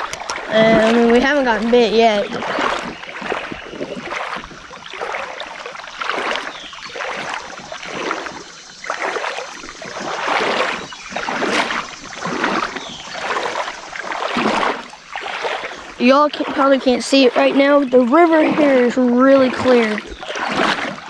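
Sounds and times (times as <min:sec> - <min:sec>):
river water sloshing: 0:00.0 - 0:21.0.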